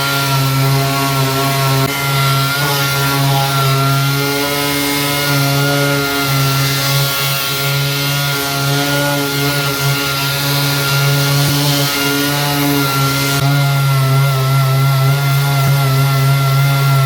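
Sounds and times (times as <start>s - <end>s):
power sander running: 0.0s - 17.0s.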